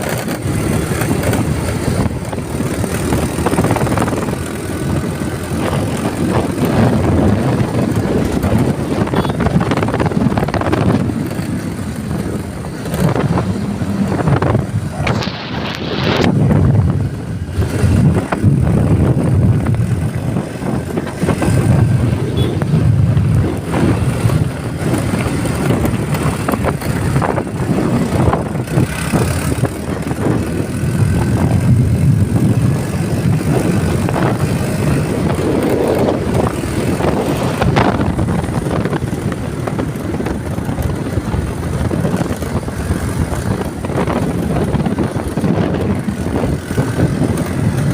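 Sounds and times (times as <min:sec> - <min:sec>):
vehicle rumbling on road: 0:00.0 - 0:47.9
wind buffeting microphone: 0:00.0 - 0:47.9.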